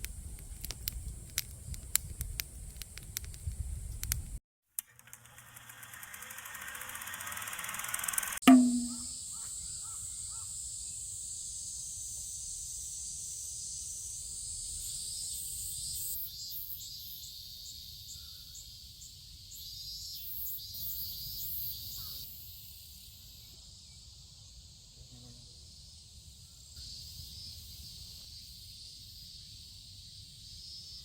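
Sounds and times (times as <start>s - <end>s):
insects chirping: 4.9s - 31.0s.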